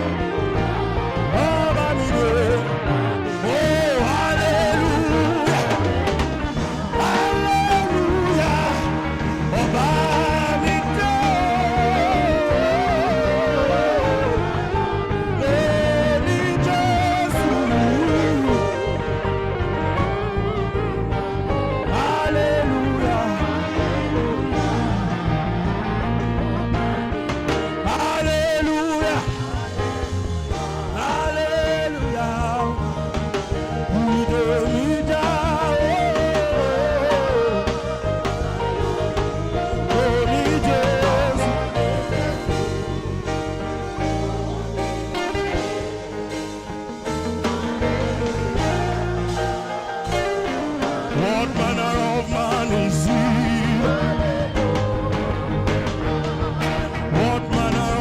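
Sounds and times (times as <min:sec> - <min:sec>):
saxophone melody: 0:00.0 - 0:28.3, 0:32.6 - 0:58.0
live band accompaniment: 0:00.0 - 0:58.0.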